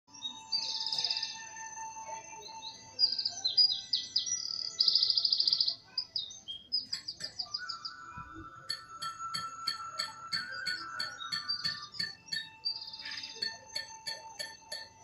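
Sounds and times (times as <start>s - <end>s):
songbirds chirping and trilling: 0.1s - 15.0s.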